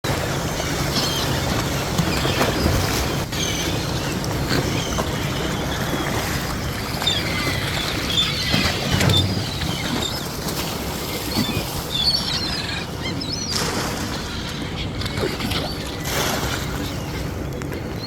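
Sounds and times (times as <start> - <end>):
boat engine rumble: 0.0 - 18.0.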